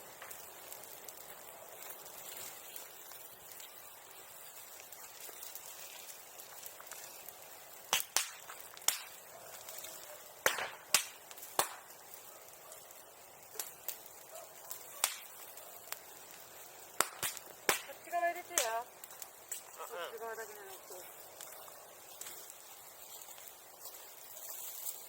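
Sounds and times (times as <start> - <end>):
bonfire crackling: 0.0 - 25.0
steady hiss: 0.0 - 25.0.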